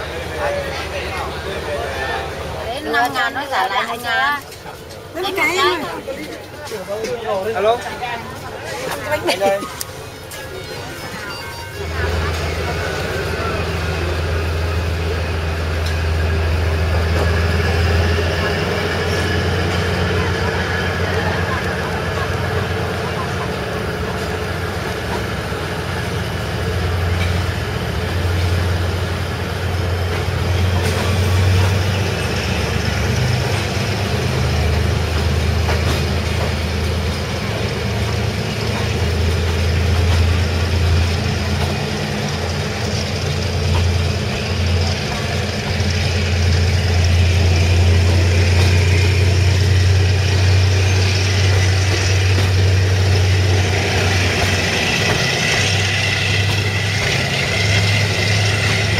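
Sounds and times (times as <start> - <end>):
passenger train running: 0.0 - 58.9.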